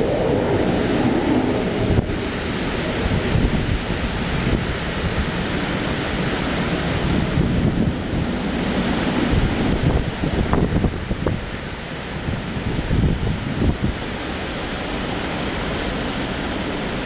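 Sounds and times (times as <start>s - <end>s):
strong wind rushing: 0.0s - 17.0s
wind buffeting microphone: 0.0s - 17.0s.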